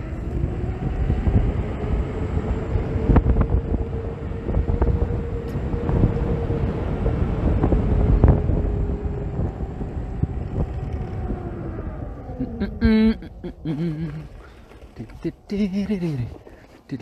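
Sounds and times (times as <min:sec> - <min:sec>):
electric motor whine: 0:00.0 - 0:15.0
wind rumble on microphone: 0:00.0 - 0:16.5.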